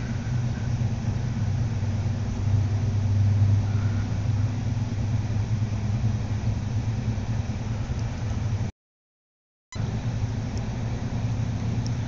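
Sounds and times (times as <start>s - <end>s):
train hum and rumble inside carriage: 0.0s - 8.7s, 9.8s - 12.0s.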